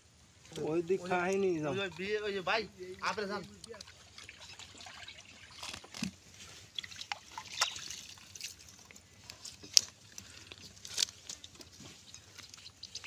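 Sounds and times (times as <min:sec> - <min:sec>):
water splashing and dripping: 0:00.4 - 0:13.0.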